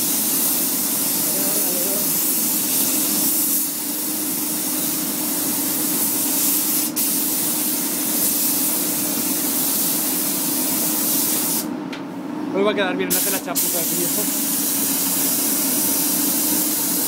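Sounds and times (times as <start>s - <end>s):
paint spray gun hissing: 0.0s - 11.7s, 13.1s - 17.0s.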